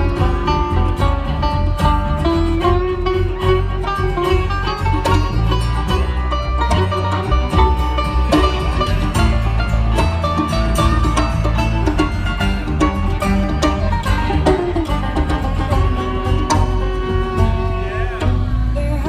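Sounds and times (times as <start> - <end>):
acoustic guitar: 0.0 - 19.0
banjo: 0.0 - 19.0
upright bass: 0.0 - 19.0.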